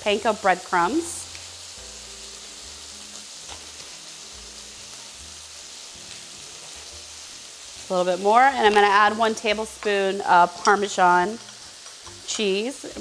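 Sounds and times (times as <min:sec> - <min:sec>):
chicken frying in oil: 0:00.0 - 0:13.0.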